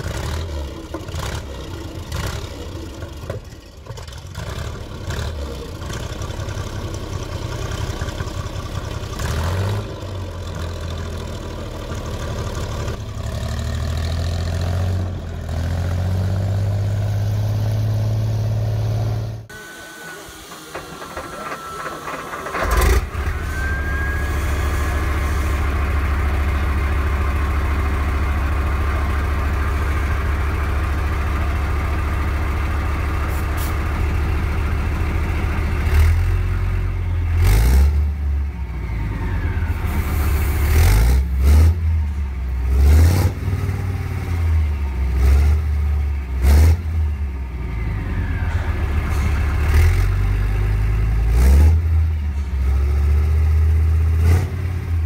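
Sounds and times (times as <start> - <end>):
tank engine revving: 0.0 - 19.5, 20.4 - 55.0
tank engine starting and idling: 0.0 - 55.0.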